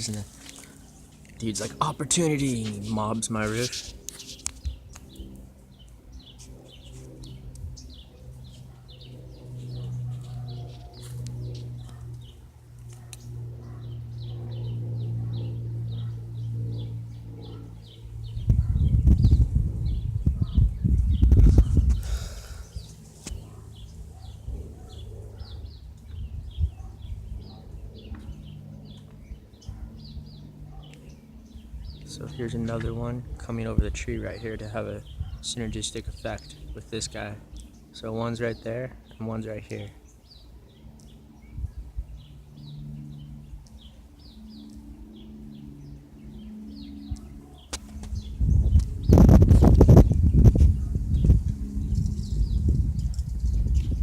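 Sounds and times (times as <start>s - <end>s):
light plane engine drone: 0.0s - 54.0s
small birds chirping: 0.0s - 54.0s
steady low hum: 0.0s - 54.0s.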